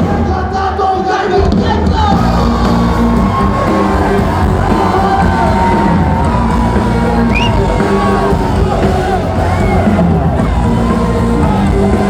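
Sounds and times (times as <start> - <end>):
crowd shouting and whooping: 0.0 - 12.0
loud music with singing: 0.0 - 12.0.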